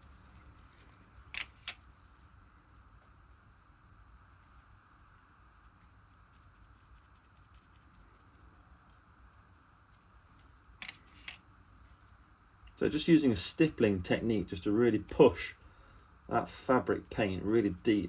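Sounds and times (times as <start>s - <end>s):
faint room hiss: 0.0s - 18.0s.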